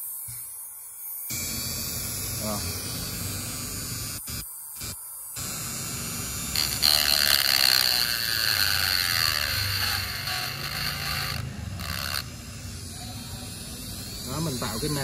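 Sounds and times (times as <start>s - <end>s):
rotary tool grinding metal: 0.0s - 15.0s.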